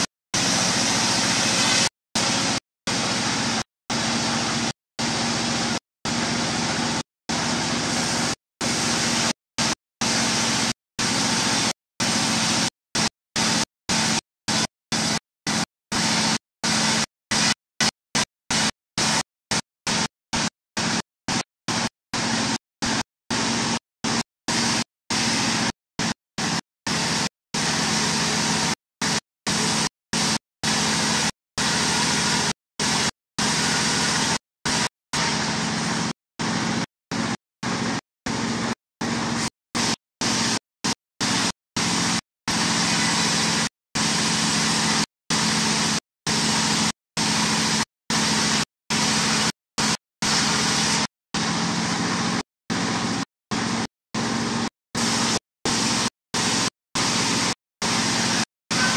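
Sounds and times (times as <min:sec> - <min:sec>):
diesel engine running: 0:00.0 - 0:17.5, 0:18.2 - 0:58.9
band sawmill cutting timber: 0:00.0 - 0:17.9, 0:18.5 - 0:53.8, 0:55.0 - 0:58.9.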